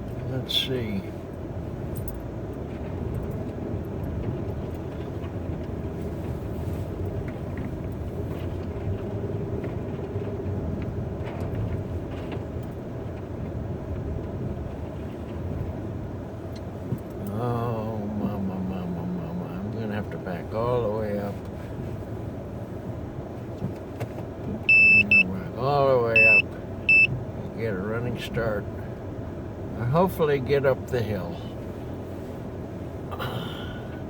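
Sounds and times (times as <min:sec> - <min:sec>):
car engine droning: 0:00.0 - 0:34.0.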